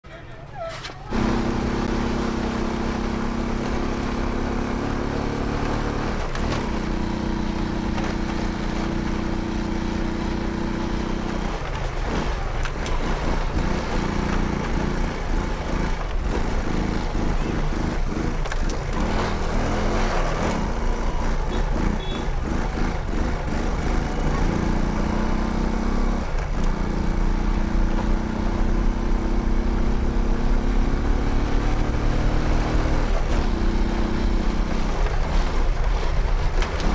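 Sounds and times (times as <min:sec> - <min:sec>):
small motorcycle engine running: 0:01.1 - 0:36.9.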